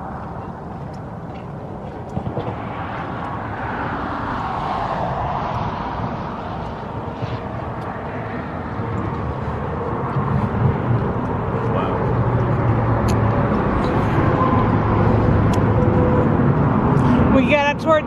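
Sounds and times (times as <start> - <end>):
highway traffic passing: 0.0 - 18.0.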